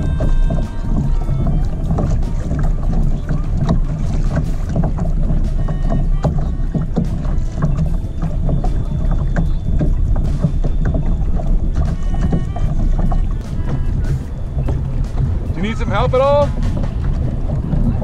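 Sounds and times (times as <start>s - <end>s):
water lapping against hull: 0.0s - 18.0s
wind rumbling on microphone: 0.0s - 18.0s.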